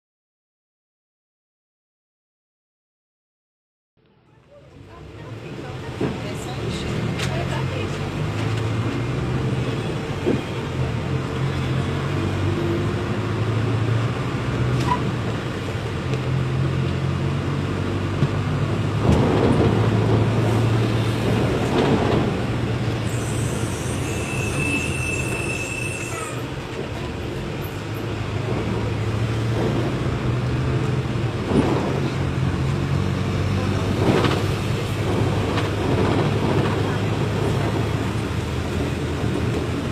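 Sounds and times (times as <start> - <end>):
bus engine droning: 4.1 - 39.9.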